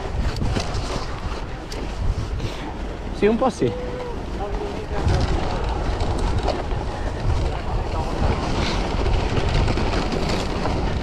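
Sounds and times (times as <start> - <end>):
tyres rolling on snow: 0.0 - 11.0
wind buffeting microphone: 0.0 - 11.0.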